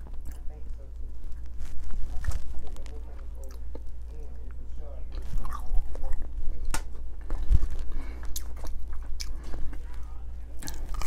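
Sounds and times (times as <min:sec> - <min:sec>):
chewing french fry: 0:00.0 - 0:11.0.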